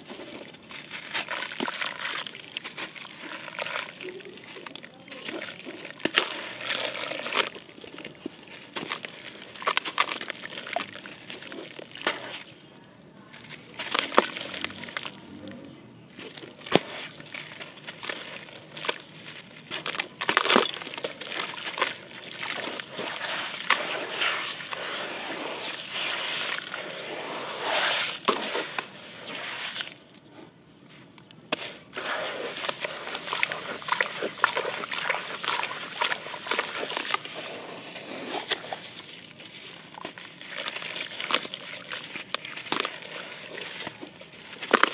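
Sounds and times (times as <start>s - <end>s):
water sloshing: 0.0s - 12.6s, 16.1s - 30.2s, 31.9s - 44.9s
hands squelching wet clay: 0.0s - 44.9s.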